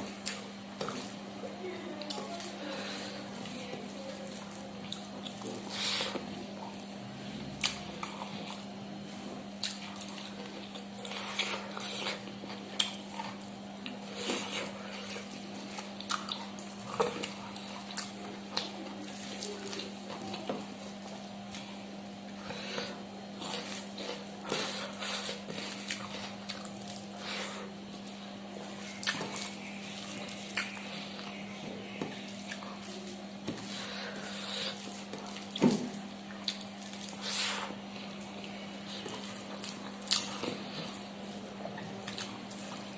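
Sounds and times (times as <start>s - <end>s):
wet squishy food sounds: 0.0s - 42.9s.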